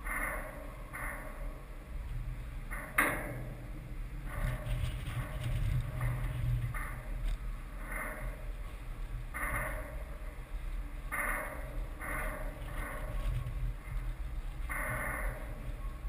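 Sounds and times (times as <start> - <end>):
low train rumble: 0.0 - 16.0
train wheels clacking over joints: 2.6 - 16.0.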